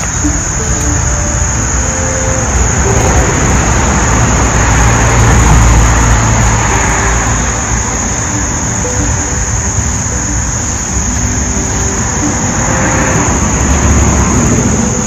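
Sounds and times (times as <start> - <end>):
vehicle passing by: 0.4 - 15.0.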